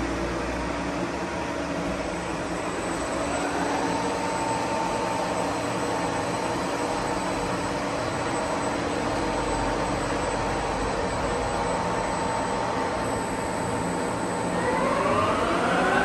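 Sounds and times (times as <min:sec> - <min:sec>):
lathe mechanical hum: 0:00.0 - 0:16.0.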